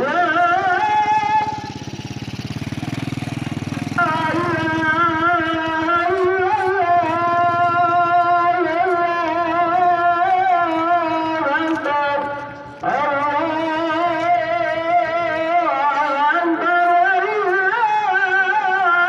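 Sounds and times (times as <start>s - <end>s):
engine running low: 0.0s - 19.0s.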